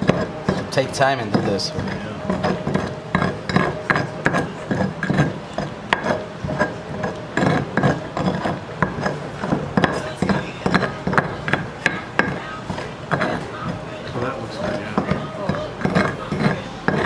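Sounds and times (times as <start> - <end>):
stone pestle grinding: 0.0 - 17.0.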